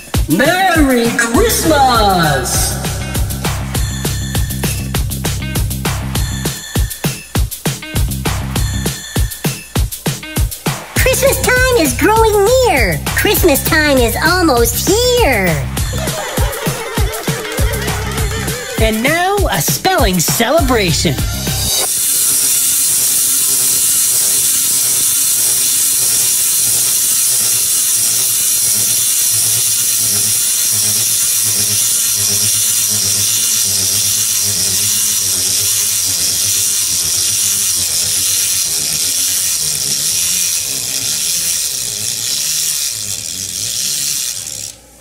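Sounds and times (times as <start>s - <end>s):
wind-up toys whirring and clattering: 1.4s - 45.0s.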